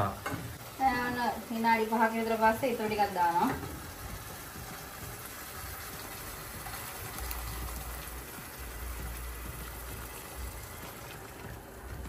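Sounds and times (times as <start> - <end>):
pan sizzling: 0.0 - 12.0.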